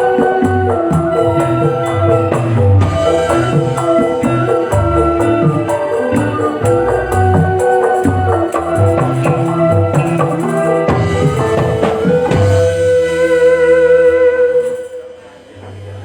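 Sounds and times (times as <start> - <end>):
music with drums: 0.0 - 15.9.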